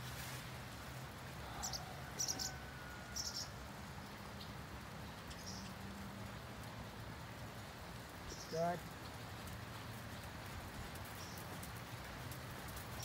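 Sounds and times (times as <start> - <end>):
small birds chirping: 1.4 - 6.4, 7.4 - 13.0.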